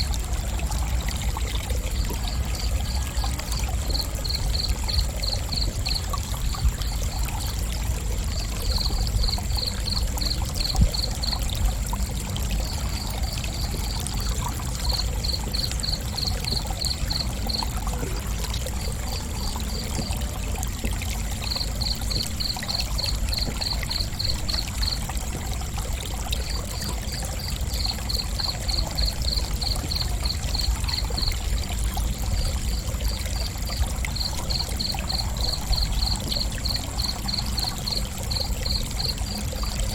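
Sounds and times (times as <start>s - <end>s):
cricket chirping: 1.9s - 39.9s.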